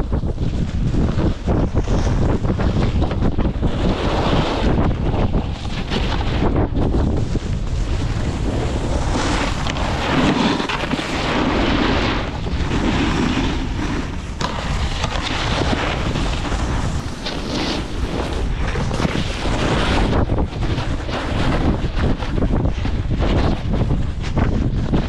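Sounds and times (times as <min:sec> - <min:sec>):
snowboard scraping packed snow: 0:00.0 - 0:25.0
wind buffeting microphone: 0:00.0 - 0:25.0.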